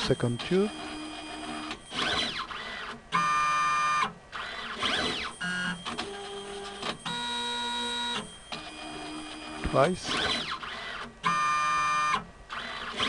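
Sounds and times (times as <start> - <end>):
robot motors whining: 0.0 - 13.0.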